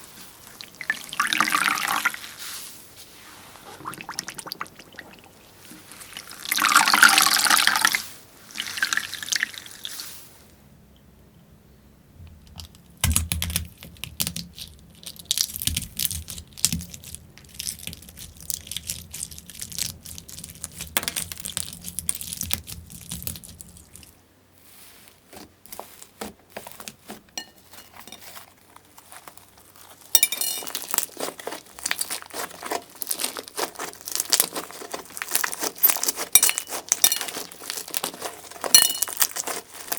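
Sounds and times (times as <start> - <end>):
slime squishing: 0.0 - 10.2, 12.5 - 39.9.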